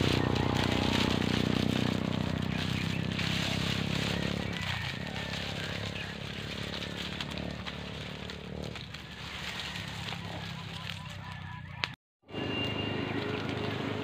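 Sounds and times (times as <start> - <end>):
fire crackling: 0.0 - 14.0.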